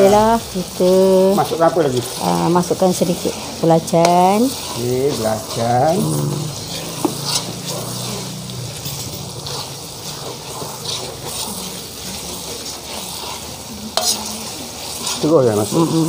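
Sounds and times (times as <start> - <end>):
spice paste sizzling in oil: 0.0 - 16.0.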